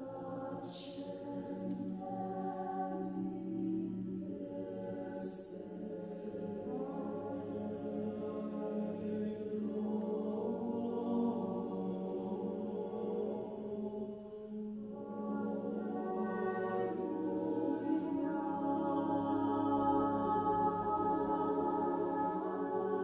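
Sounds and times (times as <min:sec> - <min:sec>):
mixed choir singing: 0:00.0 - 0:23.0
string orchestra: 0:00.0 - 0:23.0.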